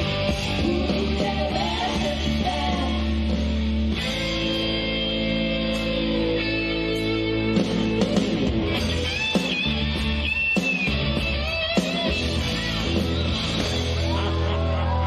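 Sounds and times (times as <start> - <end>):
loud rock music with guitar: 0.0 - 15.0.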